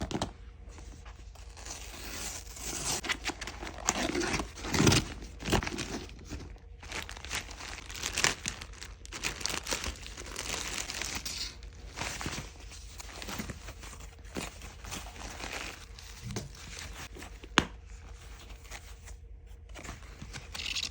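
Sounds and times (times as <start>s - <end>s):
packaging crinkling and rustling: 0.0s - 20.9s.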